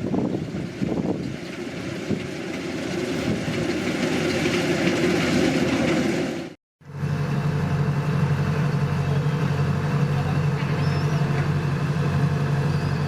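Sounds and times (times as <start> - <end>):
combine harvester engine humming: 0.0 - 13.0.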